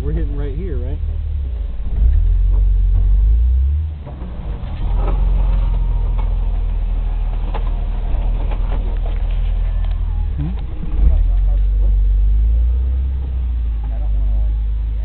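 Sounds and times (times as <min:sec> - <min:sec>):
engine rumbling at low speed: 0:00.0 - 0:15.0.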